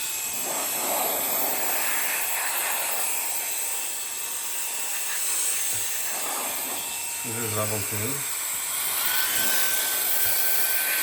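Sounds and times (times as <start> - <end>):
electric air duster whining: 0.0 - 11.0.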